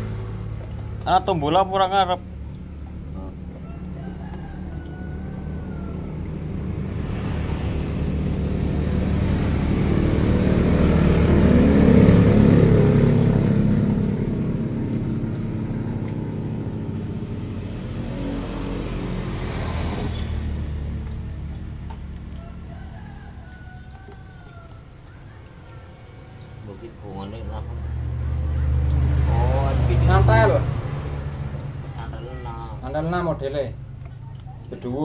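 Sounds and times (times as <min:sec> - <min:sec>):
vehicle engine passing by: 0:00.0 - 0:35.0.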